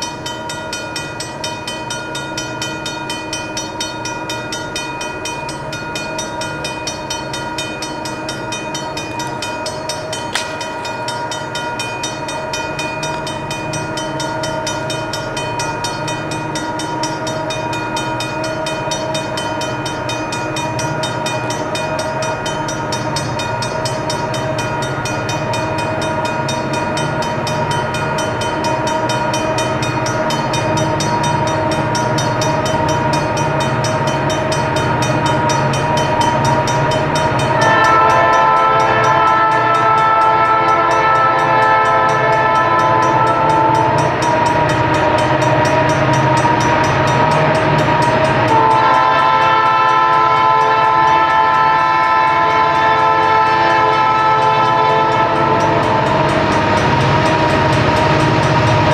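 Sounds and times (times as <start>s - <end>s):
diesel train rumble: 0.0s - 58.9s
railroad crossing bell ringing: 0.0s - 58.9s.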